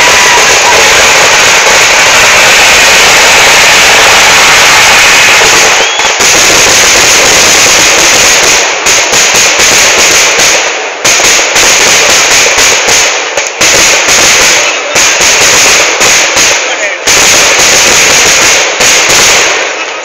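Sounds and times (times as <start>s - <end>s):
firecracker explosions: 0.0s - 20.0s.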